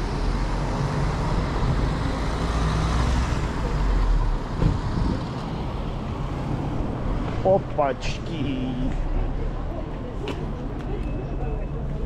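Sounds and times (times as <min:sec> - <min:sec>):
cars going by: 0:00.0 - 0:12.0.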